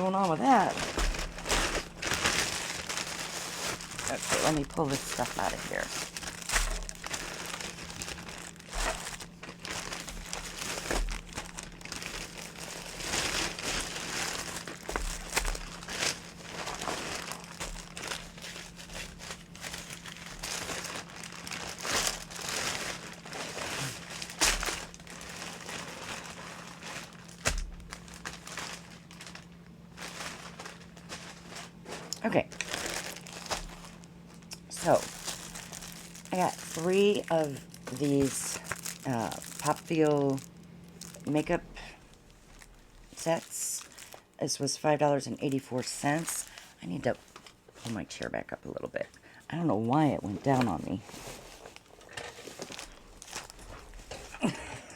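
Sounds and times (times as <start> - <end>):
plastic packaging crinkling: 0.0 - 48.2, 50.2 - 54.9
faint steady hum: 0.0 - 54.9.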